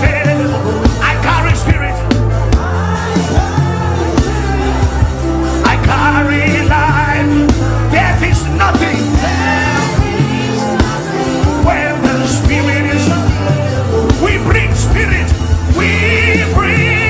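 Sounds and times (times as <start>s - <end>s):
worship music with bass and drums: 0.0s - 17.0s.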